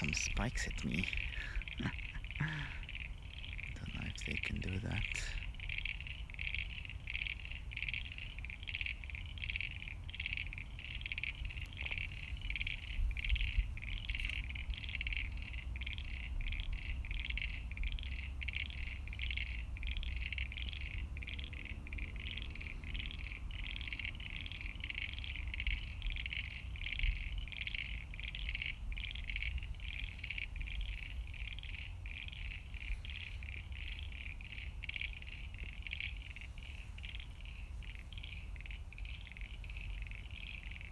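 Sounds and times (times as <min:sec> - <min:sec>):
frogs calling: 0:00.0 - 0:40.9.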